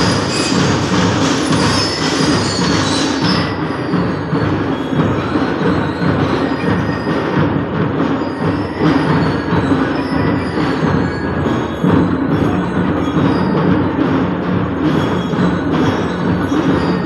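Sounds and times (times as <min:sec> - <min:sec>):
bell lyres: 0:00.0 - 0:17.0
drums: 0:00.0 - 0:17.0.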